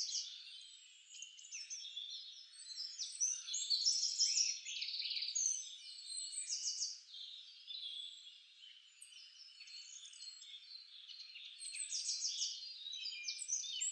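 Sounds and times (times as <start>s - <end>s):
songbirds chirping and singing: 0.0s - 13.9s.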